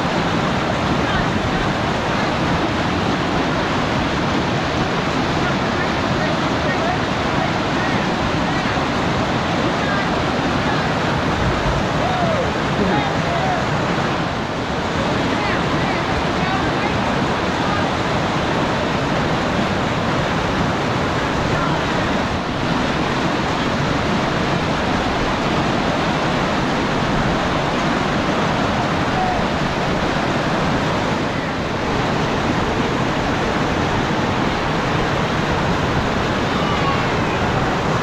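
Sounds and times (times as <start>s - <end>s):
river water rushing over rocks: 0.0s - 38.0s.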